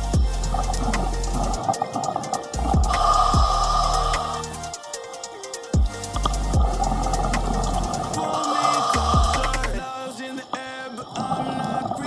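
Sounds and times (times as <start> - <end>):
electronic music with deep bass: 0.0 - 10.8.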